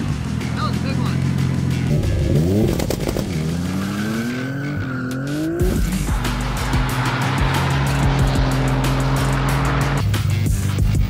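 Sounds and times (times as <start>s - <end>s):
background music: 0.0s - 11.0s
sports car engine revving: 0.0s - 11.0s.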